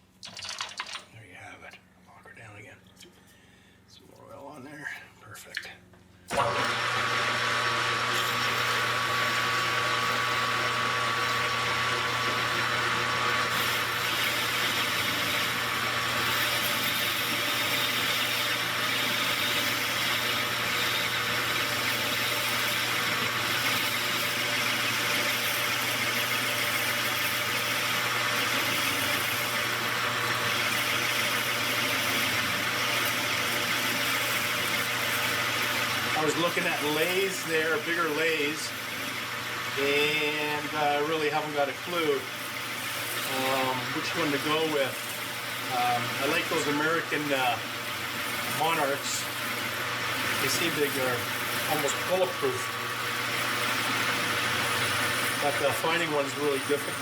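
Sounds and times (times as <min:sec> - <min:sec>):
lathe motor hum: 0:06.3 - 0:57.0.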